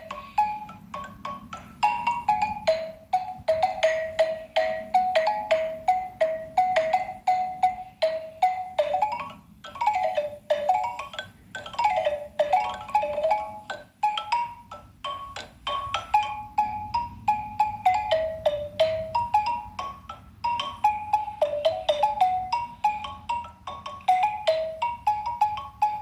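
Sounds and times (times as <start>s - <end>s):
xylophone melody: 0.0s - 26.0s.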